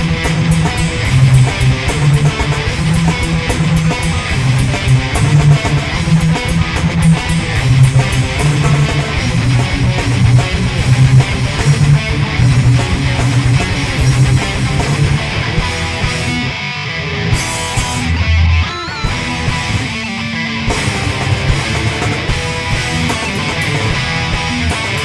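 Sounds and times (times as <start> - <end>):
drum and cymbal hits: 0.0 - 16.3, 20.7 - 25.0
bass guitar: 0.0 - 25.0
distorted electric guitar riffing: 0.0 - 25.0.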